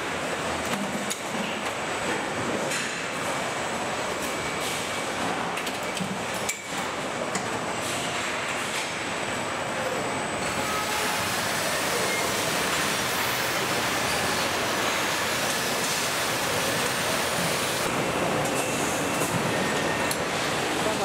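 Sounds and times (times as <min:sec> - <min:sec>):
factory machinery and air handling: 0:00.0 - 0:21.0.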